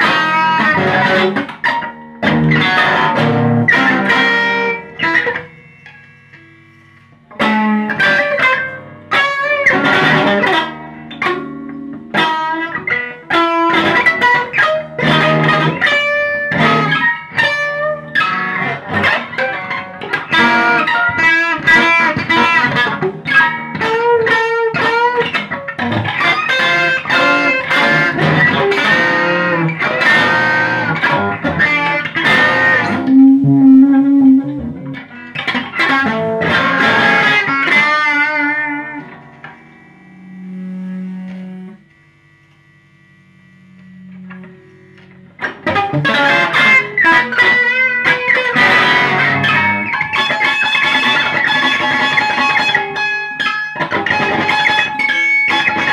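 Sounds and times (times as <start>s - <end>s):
electric guitar solo: 0.0s - 55.9s.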